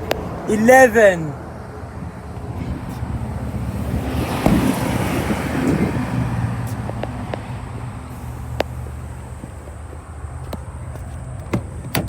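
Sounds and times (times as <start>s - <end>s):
low traffic hum: 0.0s - 12.0s
vehicle passing: 0.0s - 12.0s.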